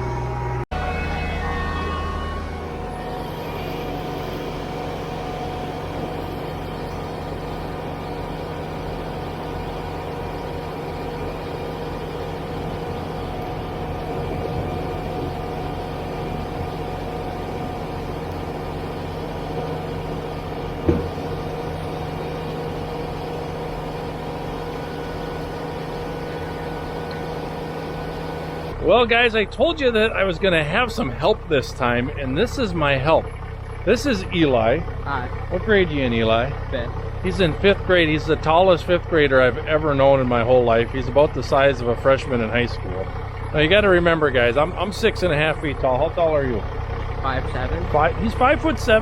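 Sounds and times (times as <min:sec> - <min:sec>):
diesel tractor engine running: 0:00.0 - 0:49.0.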